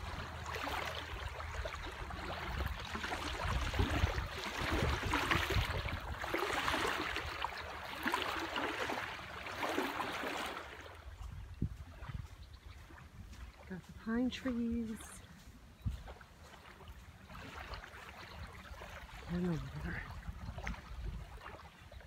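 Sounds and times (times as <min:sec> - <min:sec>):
wind buffeting microphone: 0:00.0 - 0:07.6, 0:10.9 - 0:22.0
water lapping at shore: 0:00.0 - 0:22.0.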